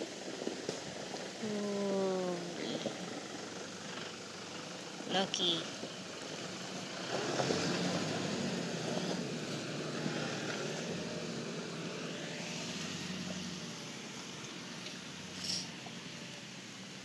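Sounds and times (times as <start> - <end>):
vehicle engine running under load: 0.0 - 17.0.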